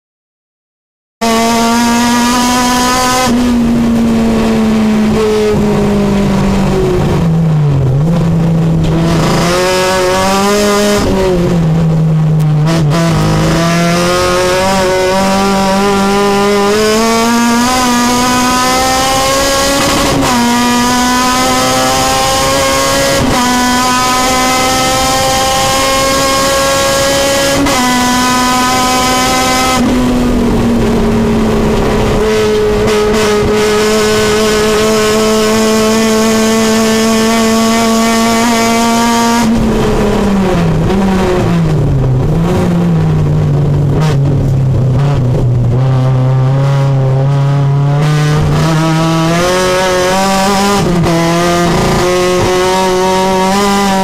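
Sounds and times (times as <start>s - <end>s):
race car engine at full throttle: 1.2s - 54.0s.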